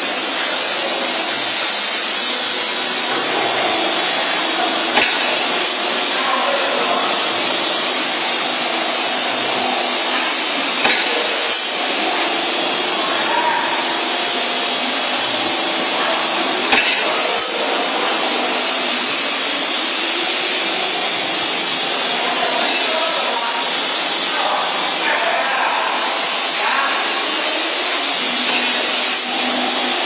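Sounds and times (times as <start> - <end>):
machine whirring hiss: 0.0 - 30.0.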